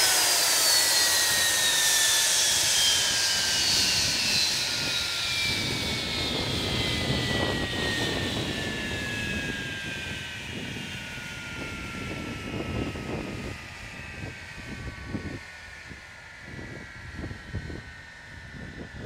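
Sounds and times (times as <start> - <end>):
jet engine whine sinking: 0.0 - 19.0.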